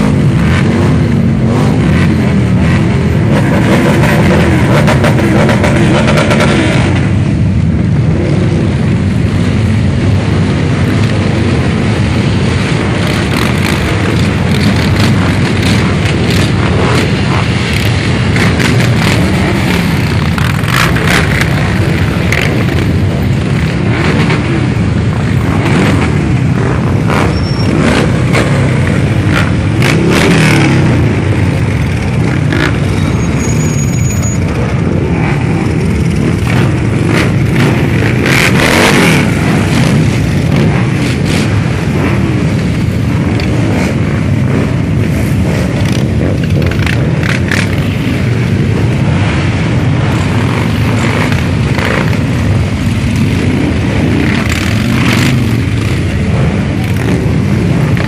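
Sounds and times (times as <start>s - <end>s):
motorcycles riding past: 0.0s - 58.0s.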